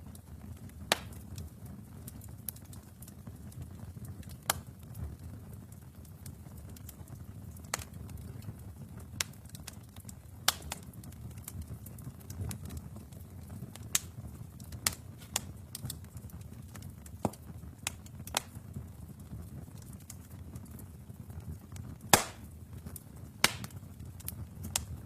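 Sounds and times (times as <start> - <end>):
low fire rumble: 0.0 - 25.0
wood fire pops and crackles: 0.0 - 25.0.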